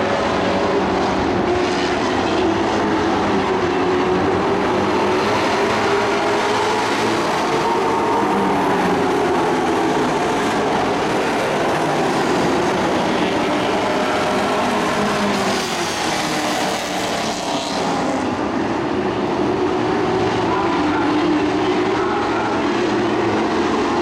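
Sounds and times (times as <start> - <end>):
race truck engines droning: 0.0 - 24.0.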